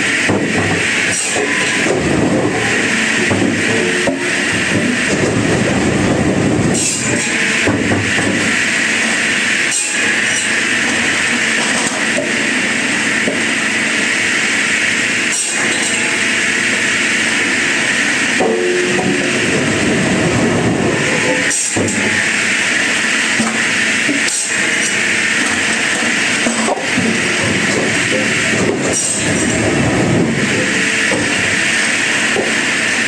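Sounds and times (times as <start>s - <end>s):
wood-processing machinery running: 0.0s - 33.0s.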